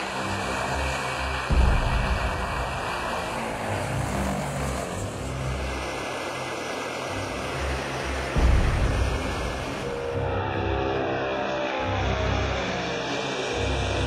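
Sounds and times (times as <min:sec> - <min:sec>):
turboprop engines running: 0:00.0 - 0:14.0.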